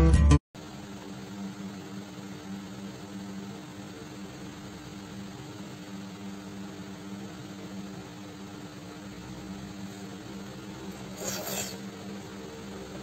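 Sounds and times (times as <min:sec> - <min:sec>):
machine hum with hiss: 0:00.6 - 0:13.0.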